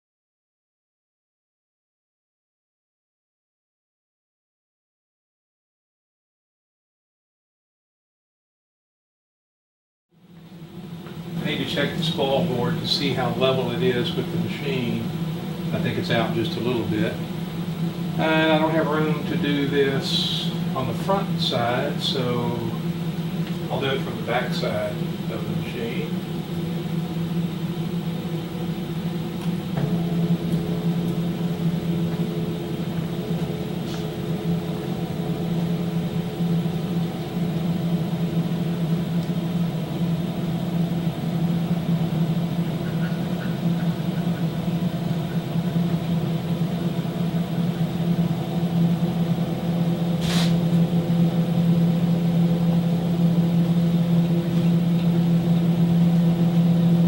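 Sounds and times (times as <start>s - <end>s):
gantry motors humming: 10.3s - 57.0s.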